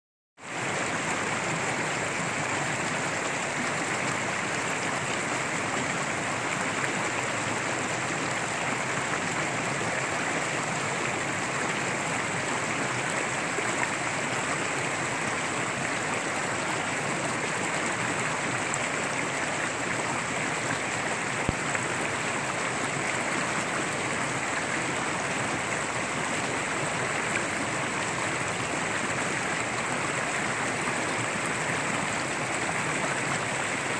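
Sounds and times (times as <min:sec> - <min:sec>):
stream rushing over rocks: 0:00.4 - 0:33.9.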